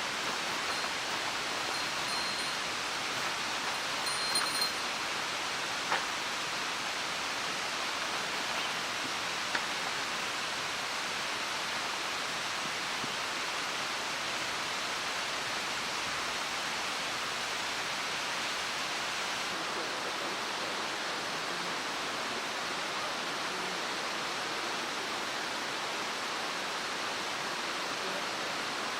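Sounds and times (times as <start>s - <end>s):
stream water rushing: 0.0s - 28.9s.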